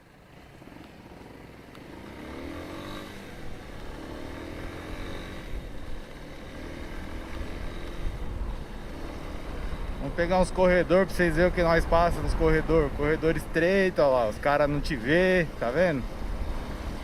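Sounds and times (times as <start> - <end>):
motorcycle engine accelerating: 0.2 - 17.0.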